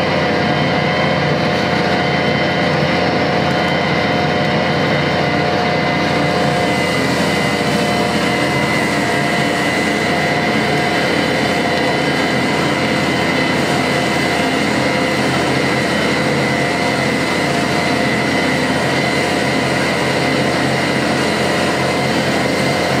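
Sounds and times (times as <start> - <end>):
high whine: 0.0 - 23.0
tractor engine running under load: 0.0 - 23.0.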